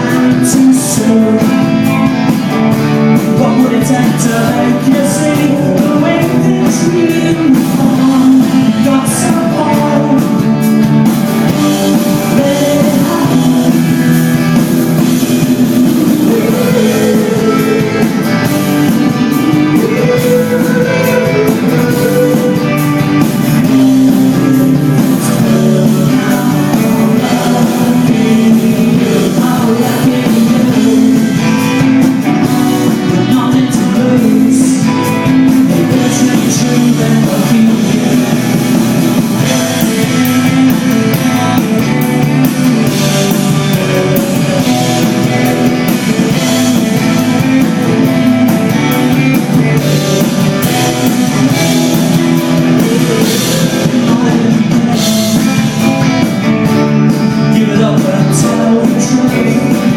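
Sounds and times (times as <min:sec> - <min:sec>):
bass: 0:00.0 - 0:59.9
drums: 0:00.0 - 0:59.9
guitars: 0:00.0 - 0:59.9
person singing: 0:00.0 - 0:59.9.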